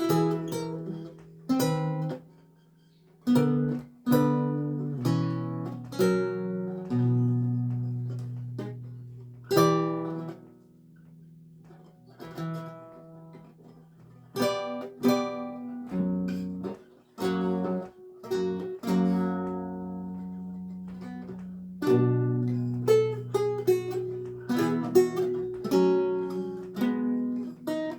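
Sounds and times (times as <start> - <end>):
lute plucked chords and notes: 0.0 - 27.9.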